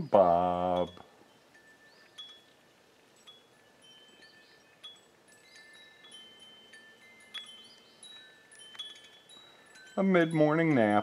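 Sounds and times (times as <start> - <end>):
faint chimes ringing: 0.0 - 11.0.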